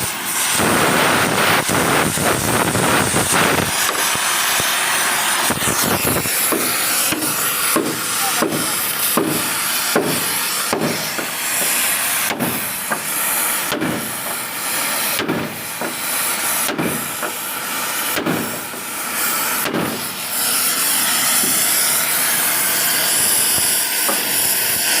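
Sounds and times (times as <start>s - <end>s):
high-pressure spray hissing: 0.0s - 25.0s.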